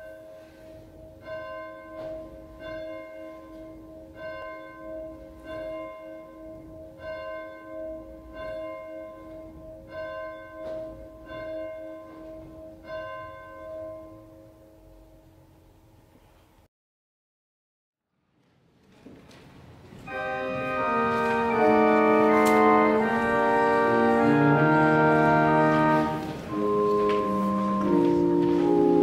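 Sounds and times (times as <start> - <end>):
church bell tolling: 0.0 - 16.3, 20.0 - 29.0.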